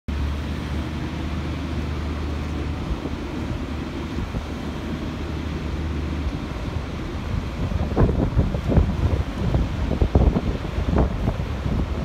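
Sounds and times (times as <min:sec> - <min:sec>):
crane engine rumbling: 0:00.1 - 0:12.0.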